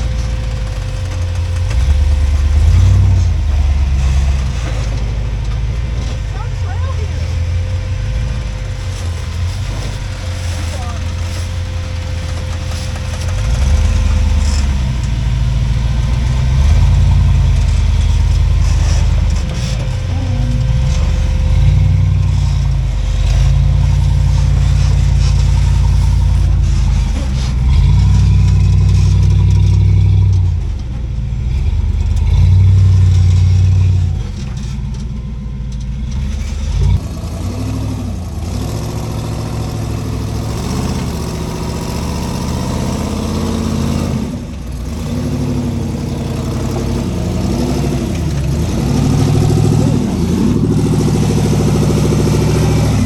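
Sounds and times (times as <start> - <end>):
engine revving: 0.0 - 53.0.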